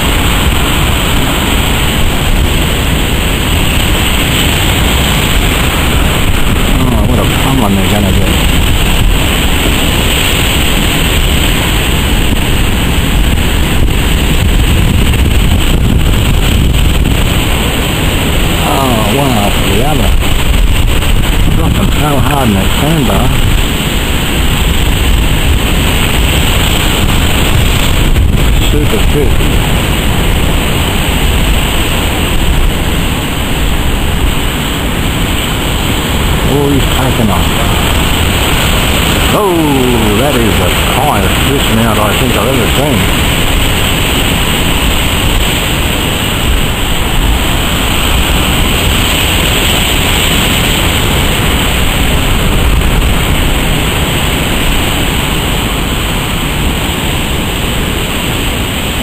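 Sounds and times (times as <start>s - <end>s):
storm surf breaking: 0.0s - 59.0s
wind buffeting microphone: 0.0s - 59.0s.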